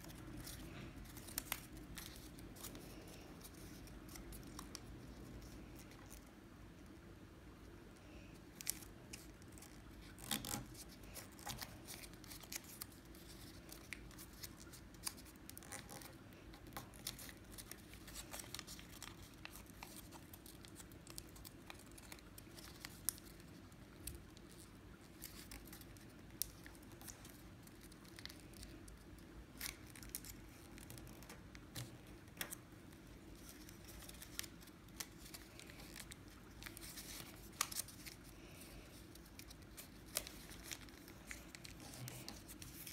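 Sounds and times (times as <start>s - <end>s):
paper rustling and crinkling: 0.0s - 6.3s, 8.1s - 42.9s
low steady hum: 0.0s - 42.9s.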